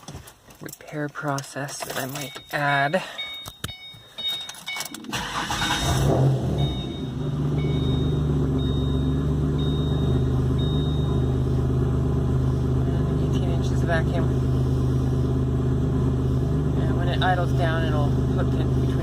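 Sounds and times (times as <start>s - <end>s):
car engine starting and idling: 0.8s - 19.0s.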